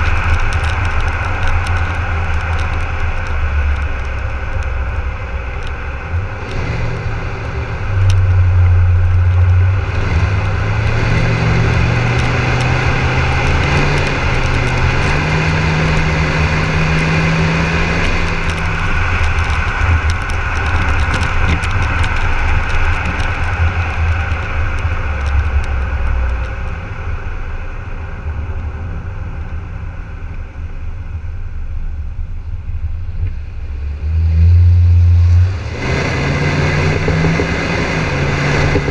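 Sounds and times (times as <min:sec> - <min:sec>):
diesel car engine accelerating: 0:00.0 - 0:38.9.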